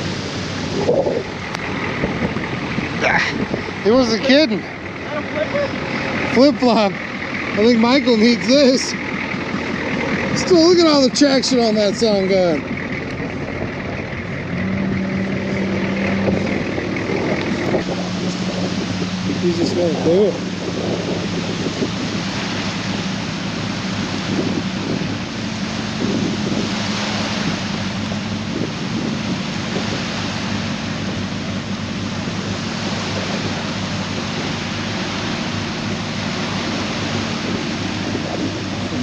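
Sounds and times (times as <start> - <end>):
car engine droning: 0.0 - 39.0
churning water: 0.0 - 39.0.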